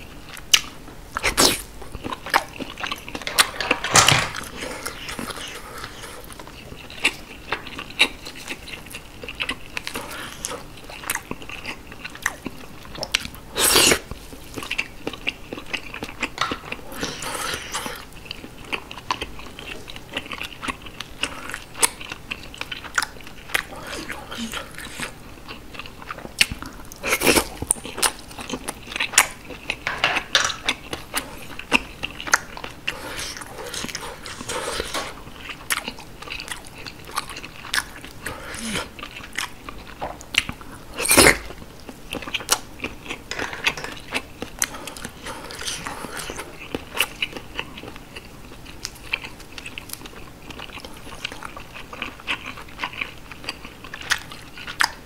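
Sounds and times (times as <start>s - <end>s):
close chewing and biting: 0.0s - 55.0s.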